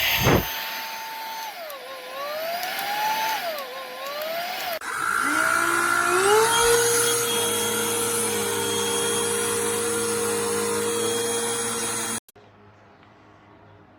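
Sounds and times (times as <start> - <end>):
handheld vacuum motor whining: 0.0 - 12.2.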